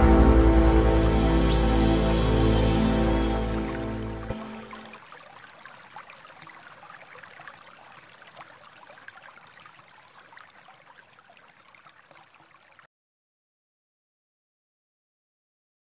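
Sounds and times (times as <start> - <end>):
shallow stream trickling: 0.0 - 12.9.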